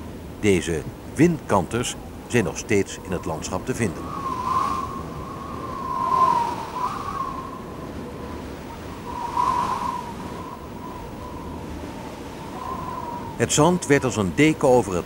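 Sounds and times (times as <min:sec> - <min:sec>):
wind blowing with whistling: 0:00.0 - 0:15.0.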